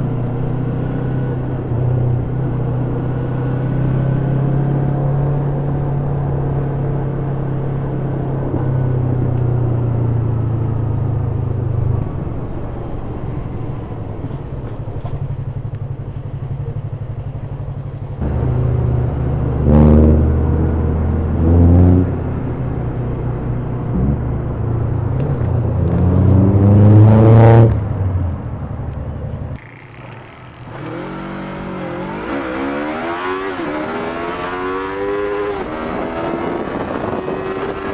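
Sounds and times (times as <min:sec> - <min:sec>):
motorcycle engine revving: 0:00.0 - 0:28.5, 0:29.4 - 0:37.9.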